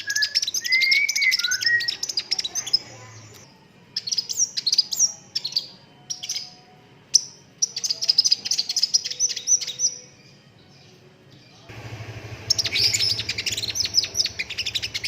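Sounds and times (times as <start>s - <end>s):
bird singing high chirps: 0.0s - 15.0s.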